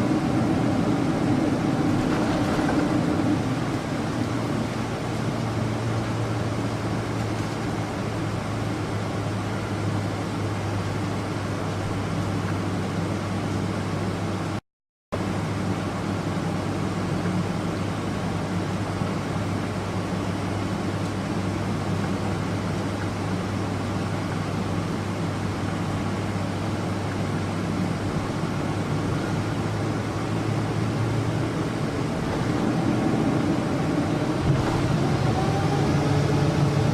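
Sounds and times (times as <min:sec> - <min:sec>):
airplane cabin noise: 0:00.0 - 0:14.6, 0:15.2 - 0:36.9.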